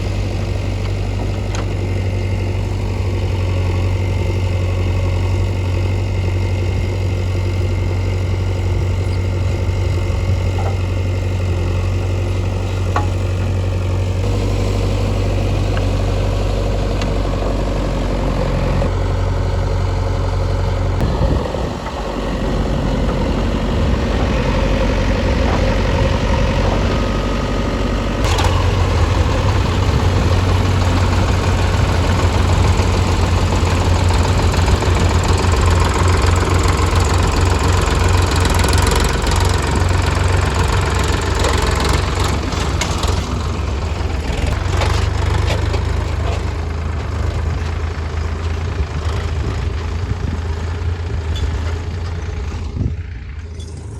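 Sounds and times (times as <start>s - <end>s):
diesel engine working: 0.0s - 53.9s.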